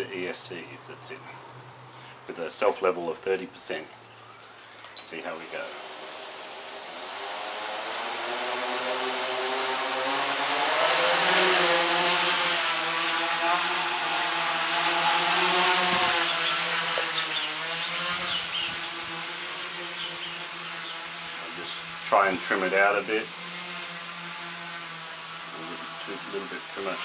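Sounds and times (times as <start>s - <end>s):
drone propeller buzz: 4.0s - 27.0s.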